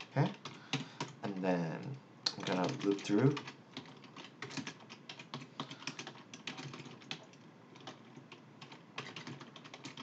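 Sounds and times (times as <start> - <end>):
keyboard typing: 0.0 - 1.2, 2.3 - 10.0.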